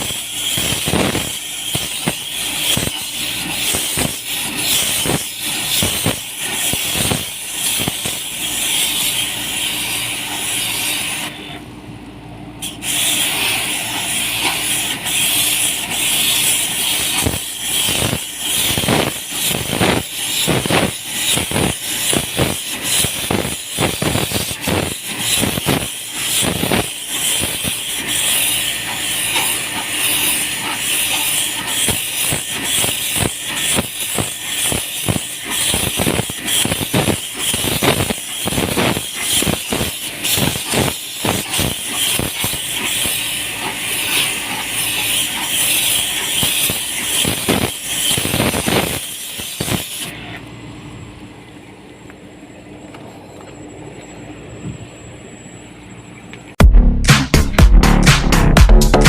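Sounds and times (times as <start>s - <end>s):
high-pressure water spray hissing: 0.0s - 11.4s, 12.6s - 50.1s.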